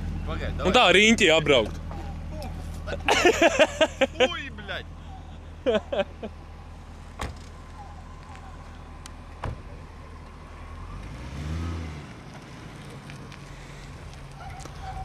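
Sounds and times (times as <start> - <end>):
car engine running and revving: 0.0 - 15.0.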